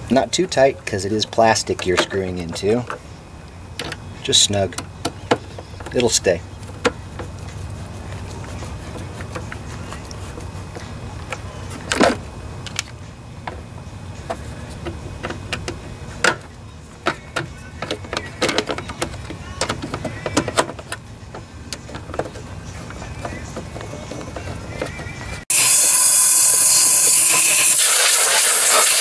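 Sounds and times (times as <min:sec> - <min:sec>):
hand tools clicking and knocking: 0:00.0 - 0:03.1, 0:03.8 - 0:25.4
steady low hum: 0:00.0 - 0:25.5.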